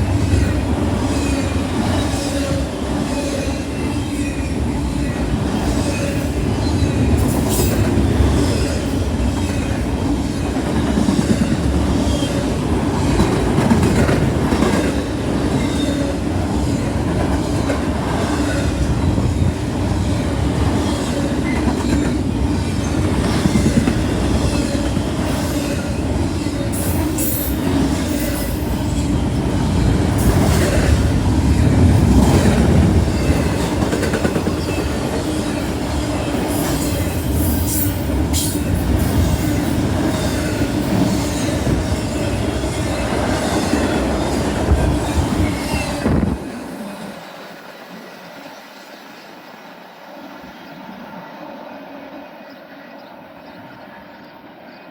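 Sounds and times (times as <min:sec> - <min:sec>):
freight train rumbling past: 0:00.0 - 0:54.9.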